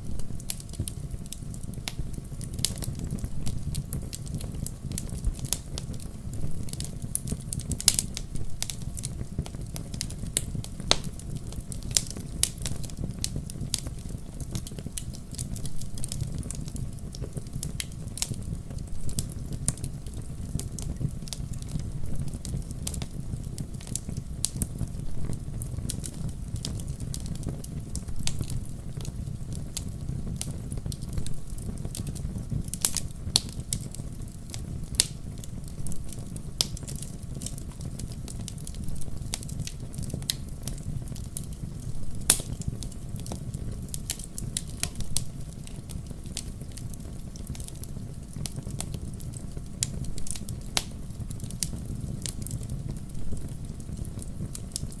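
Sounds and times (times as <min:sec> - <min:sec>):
burning wood crackling and popping: 0:00.0 - 0:55.0
low rumble of flames: 0:00.0 - 0:55.0.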